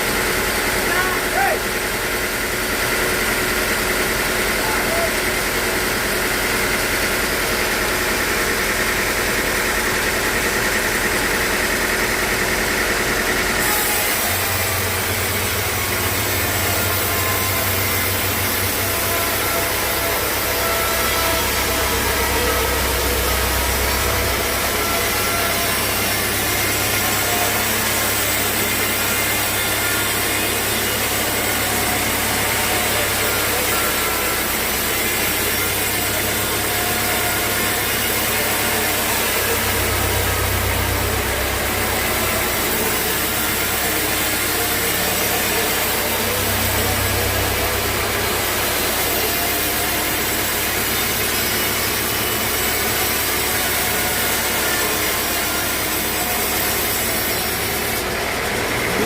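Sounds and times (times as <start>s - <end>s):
motor hum: 0.0s - 59.0s
saw cutting wood: 0.0s - 59.0s.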